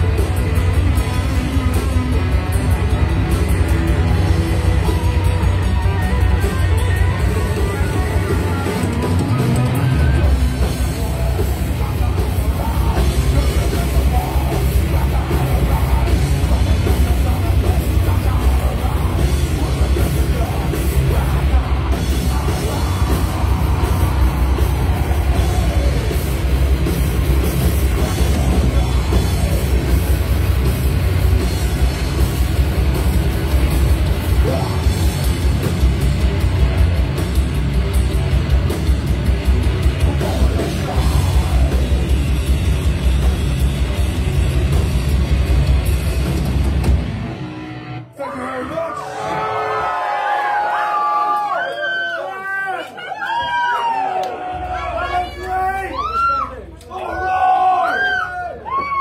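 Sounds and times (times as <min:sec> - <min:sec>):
distorted electric guitar: 0:00.0 - 0:48.2
heavy metal band playing live: 0:00.0 - 0:51.5.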